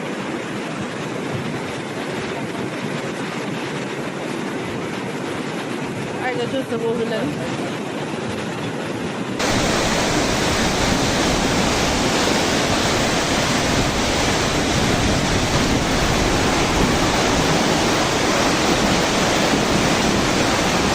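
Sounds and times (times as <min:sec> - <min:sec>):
rushing floodwater in a river: 0:00.0 - 0:20.9.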